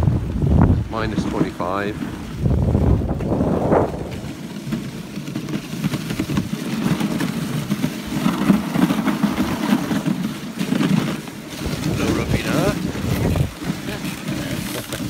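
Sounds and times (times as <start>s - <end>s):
sled runners on snow: 0.0s - 15.0s
wind buffeting microphone: 0.0s - 15.0s.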